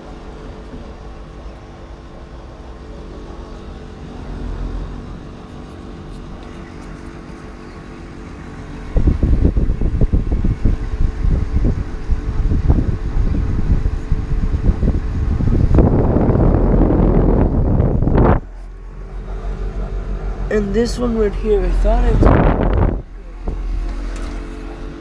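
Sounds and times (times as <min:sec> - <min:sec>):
air conditioner humming: 0:00.0 - 0:25.0
loud uneven low rumble: 0:00.0 - 0:25.0.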